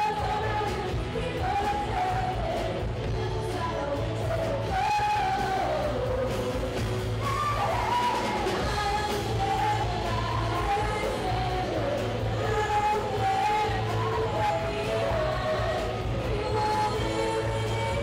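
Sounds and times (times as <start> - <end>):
rock band playing: 0.0 - 18.0
woman singing lead vocals: 0.0 - 18.0.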